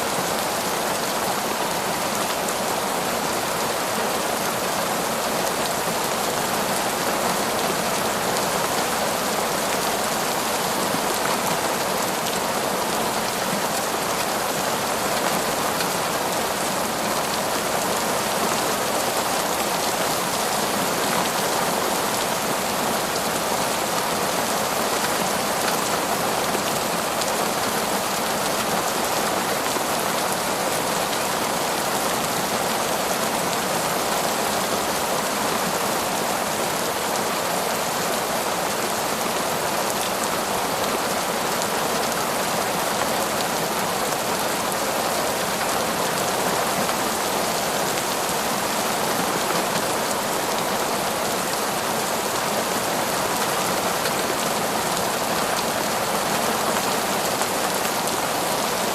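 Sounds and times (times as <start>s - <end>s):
heavy rain on forest: 0.0s - 58.9s.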